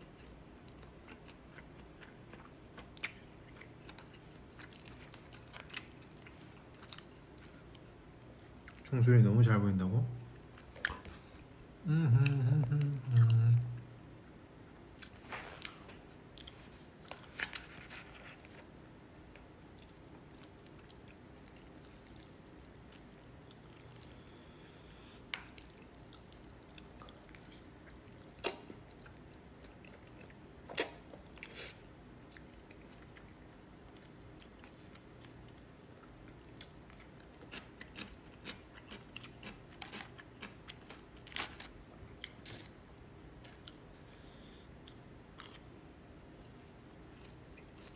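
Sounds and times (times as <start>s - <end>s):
faint chewing: 0.0s - 8.9s, 14.9s - 47.9s.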